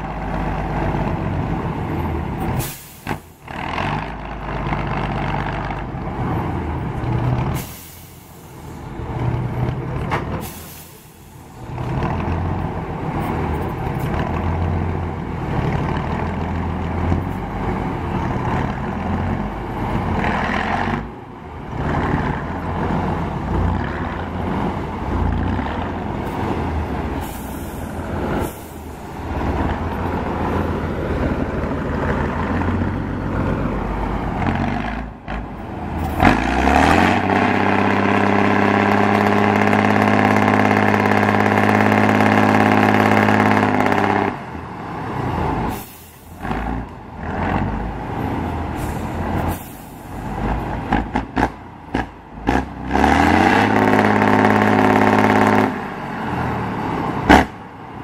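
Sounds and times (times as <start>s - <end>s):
diesel engine revving under load: 0.0s - 58.0s.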